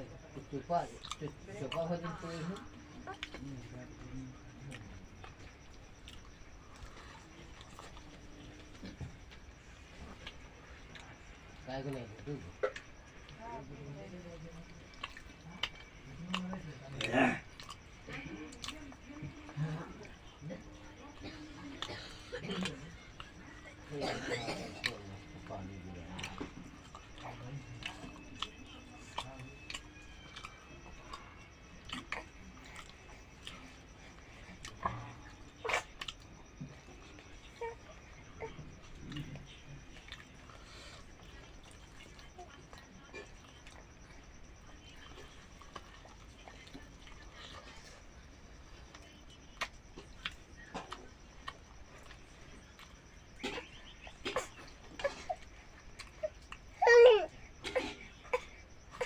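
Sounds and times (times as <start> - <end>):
person chewing food: 0.9 - 11.6, 14.6 - 20.8, 24.8 - 56.7.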